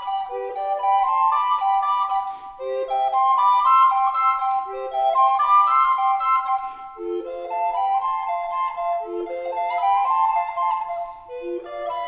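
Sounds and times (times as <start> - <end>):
recorders playing duet: 0.0 - 12.0.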